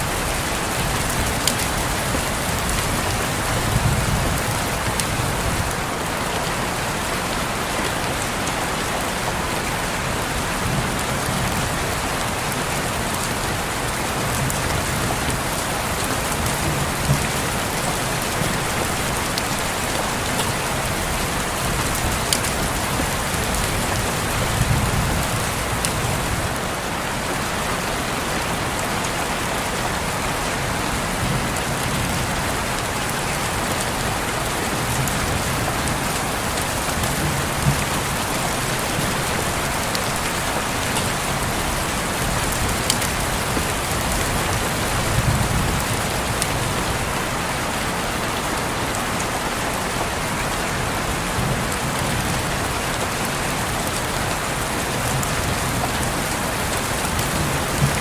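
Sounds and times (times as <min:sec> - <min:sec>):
rain on window glass: 0:00.0 - 0:58.0.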